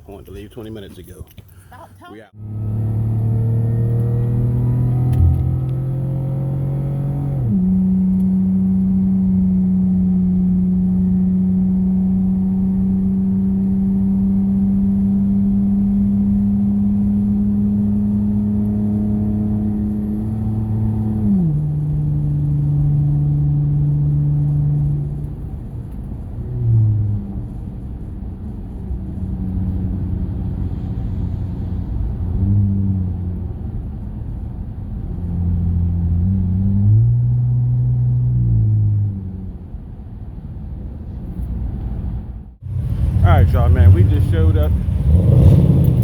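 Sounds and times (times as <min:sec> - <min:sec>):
car engine humming: 0:00.0 - 0:46.0.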